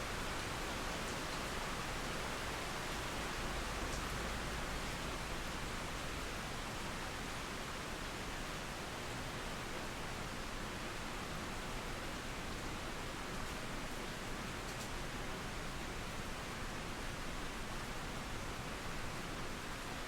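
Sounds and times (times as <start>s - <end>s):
steady rain hissing: 0.0s - 20.0s.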